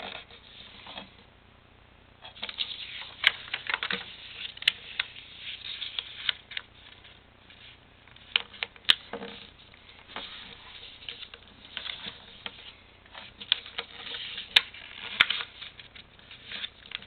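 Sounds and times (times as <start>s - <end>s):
paper rustling and crackling: 2.4s - 17.0s.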